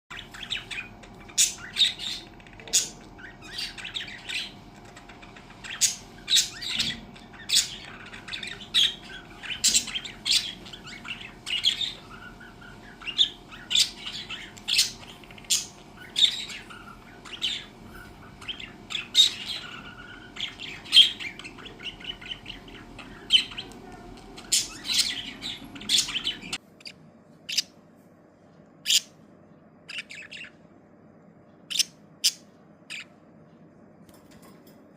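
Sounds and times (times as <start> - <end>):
budgerigars chirping and squawking: 0.1 - 27.8, 28.8 - 29.2, 29.9 - 30.6, 31.7 - 33.2
steady background hum: 0.1 - 34.9.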